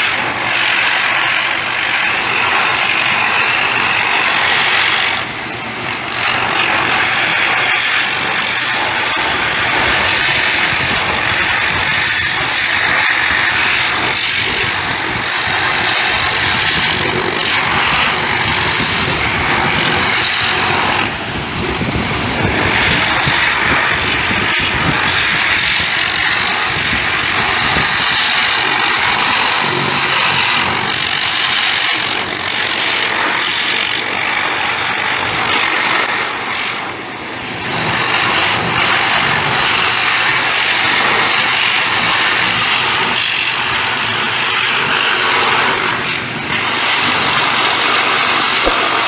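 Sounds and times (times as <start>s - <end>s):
pressure washer spraying: 0.0s - 49.0s.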